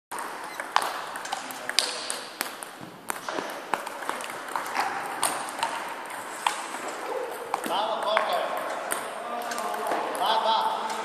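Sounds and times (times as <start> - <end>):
ping-pong ball hitting paddles and table: 0.1 - 11.0.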